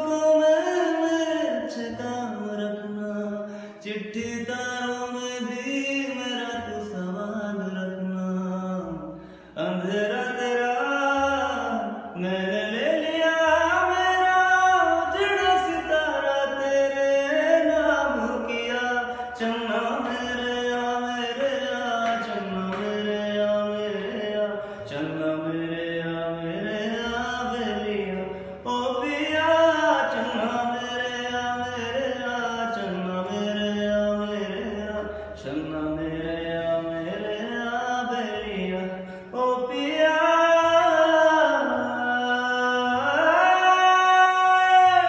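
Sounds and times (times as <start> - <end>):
man singing slow melody: 0.0 - 45.0.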